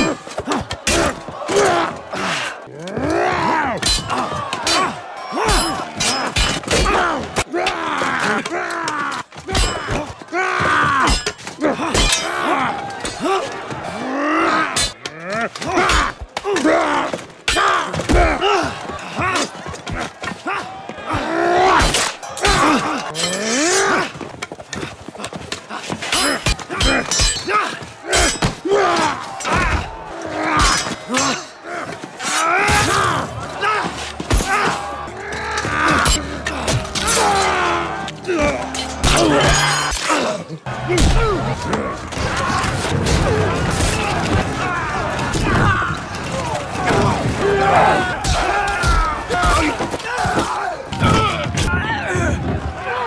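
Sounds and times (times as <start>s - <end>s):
people grunting and groaning: 0.0s - 53.0s.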